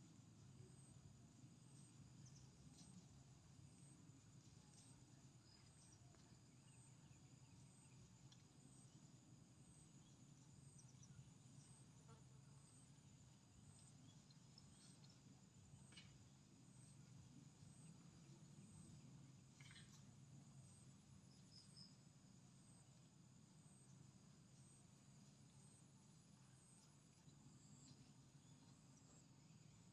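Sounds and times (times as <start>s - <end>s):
faint high insect trill: 0.0s - 29.9s.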